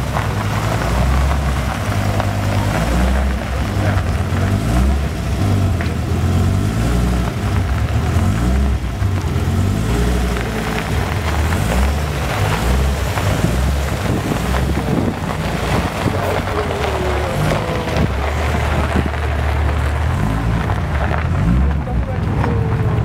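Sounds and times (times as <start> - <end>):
car engine exhaust rumble: 0.0 - 23.0.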